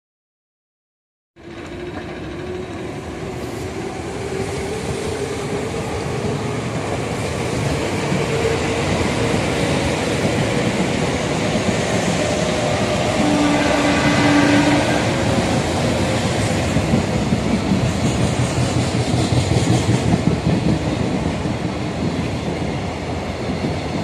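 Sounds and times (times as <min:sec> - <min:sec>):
wheels rumbling on rails: 0:01.4 - 0:24.0.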